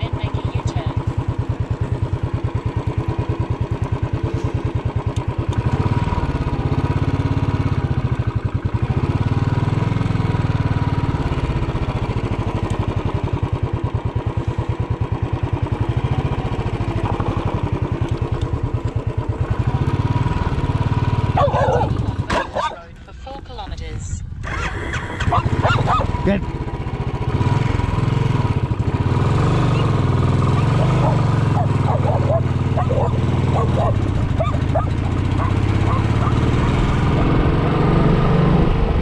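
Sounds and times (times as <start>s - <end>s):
motorcycle engine idling: 0.0s - 23.2s, 24.2s - 37.5s.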